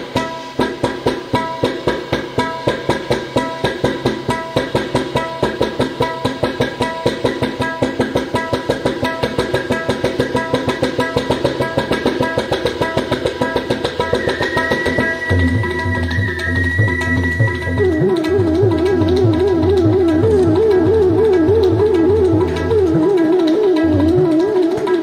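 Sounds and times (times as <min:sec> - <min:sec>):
hand drums playing a rhythm: 0:00.0 - 0:25.0.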